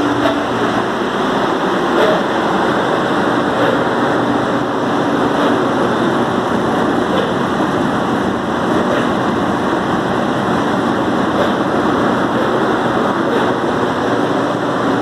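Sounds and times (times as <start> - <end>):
blower fan rushing air: 0.0 - 15.0.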